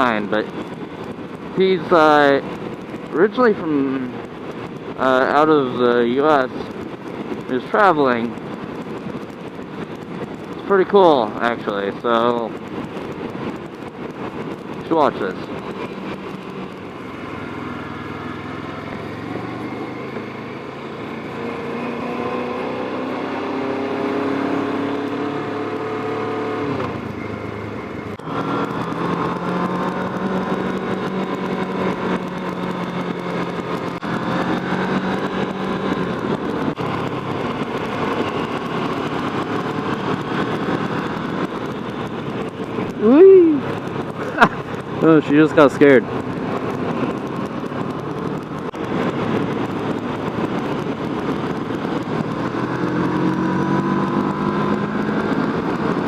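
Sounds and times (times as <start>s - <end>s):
motorcycle engine accelerating: 0.0s - 56.0s
wind rush: 0.0s - 56.0s.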